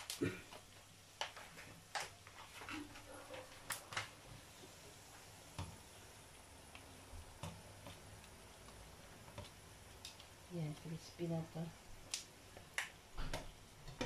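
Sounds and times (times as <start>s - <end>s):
fish sizzling in oil: 0.0s - 2.8s, 4.1s - 13.9s.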